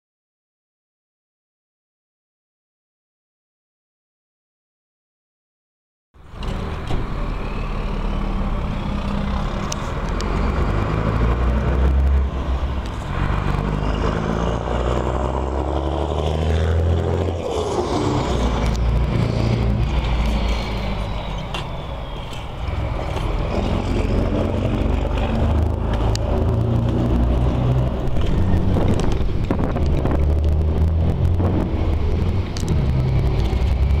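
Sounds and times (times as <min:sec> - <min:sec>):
truck diesel engine roaring: 0:06.2 - 0:34.0.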